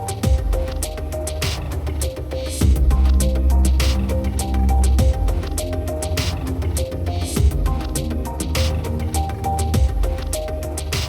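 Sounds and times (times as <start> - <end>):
background music with bass beat: 0.0 - 11.0.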